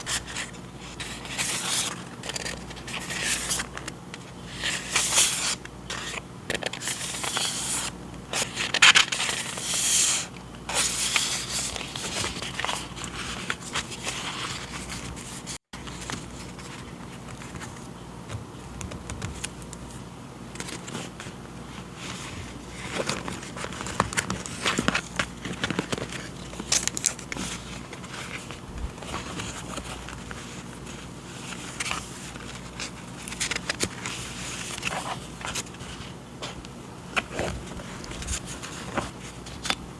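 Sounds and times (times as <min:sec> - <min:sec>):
paper and packaging rustling: 0:04.6 - 0:17.9, 0:20.6 - 0:39.8.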